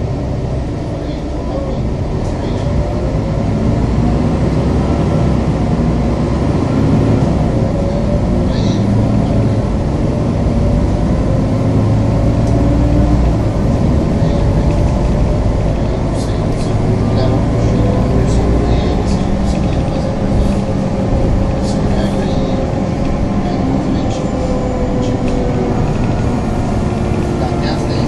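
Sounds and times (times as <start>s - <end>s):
bus engine rumbling: 0.0s - 28.0s.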